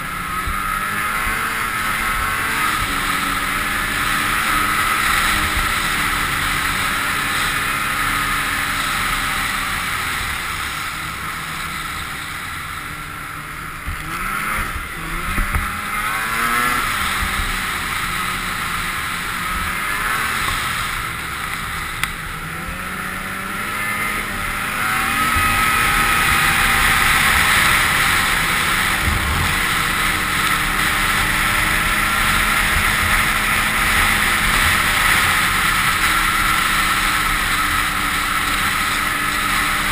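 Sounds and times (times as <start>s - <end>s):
snowmobile engine running: 0.0s - 39.9s
track and wind noise: 0.0s - 39.9s.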